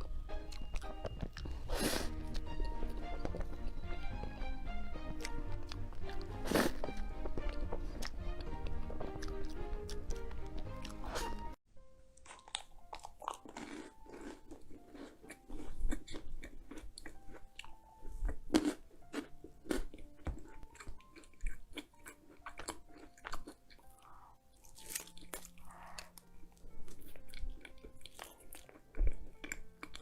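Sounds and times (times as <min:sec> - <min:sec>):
crunchy biting and chewing: 0:00.4 - 0:03.6, 0:05.1 - 0:11.5, 0:12.2 - 0:30.0.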